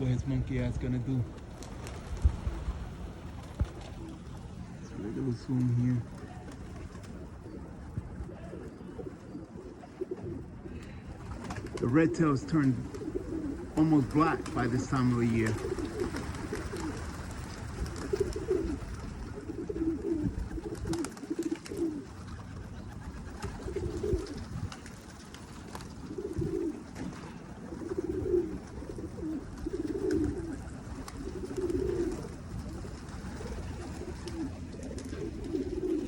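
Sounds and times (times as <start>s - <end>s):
pigeons cooing: 0.0s - 36.0s
wind rumbling on microphone: 0.0s - 36.0s.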